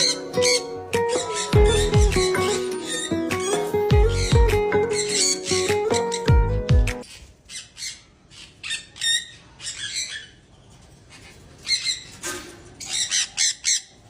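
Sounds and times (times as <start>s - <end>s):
parrot squawking and chirping: 0.0s - 6.3s, 7.0s - 14.0s.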